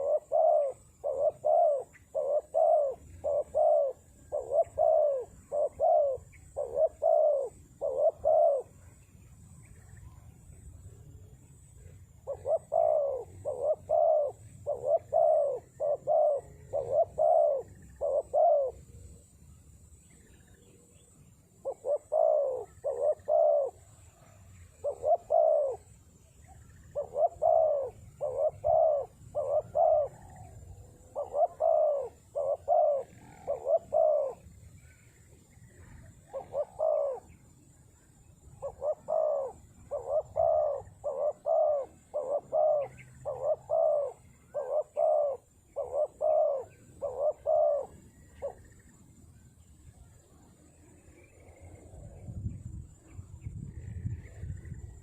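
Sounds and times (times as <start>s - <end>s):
dove cooing: 0.0s - 49.4s, 50.0s - 55.0s.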